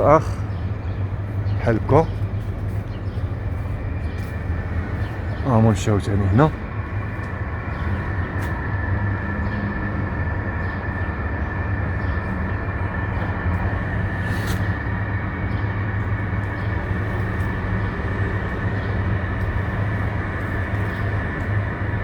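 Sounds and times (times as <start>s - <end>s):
mechanical rumble with whine: 0.0s - 22.0s.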